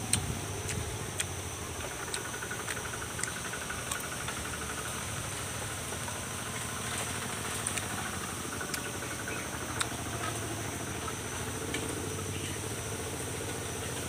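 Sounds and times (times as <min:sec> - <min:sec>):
background hum: 0:00.0 - 0:14.0.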